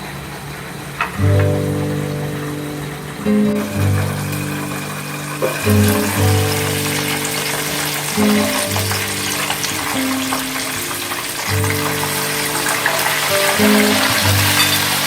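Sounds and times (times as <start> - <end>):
background music: 1.2 - 15.0
food sizzling in hot oil: 1.4 - 15.0.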